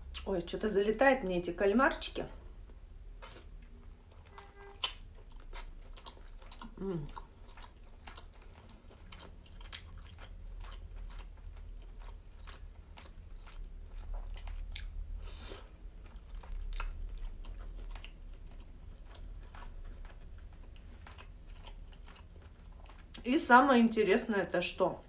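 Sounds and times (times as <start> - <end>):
close chewing with wet mouth clicks: 2.6 - 23.3.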